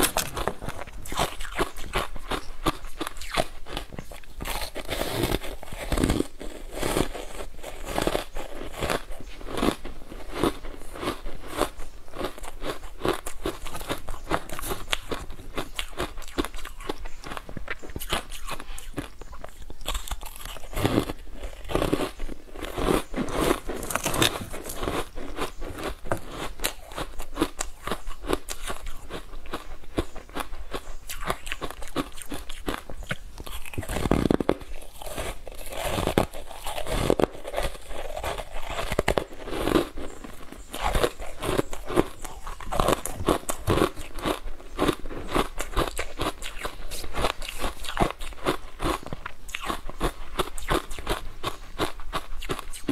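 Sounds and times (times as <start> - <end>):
ice cubes crunching: 0.0 - 52.9.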